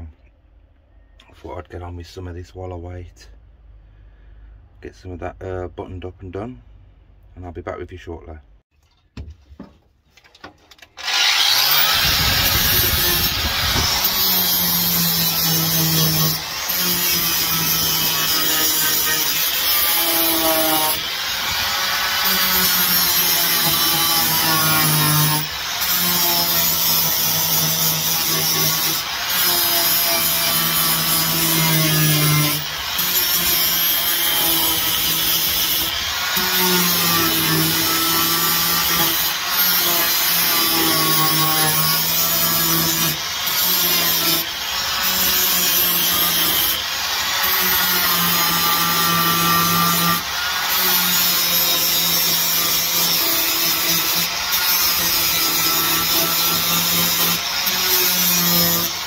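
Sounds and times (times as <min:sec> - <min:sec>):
angle grinder grinding metal: 0:11.0 - 0:59.0.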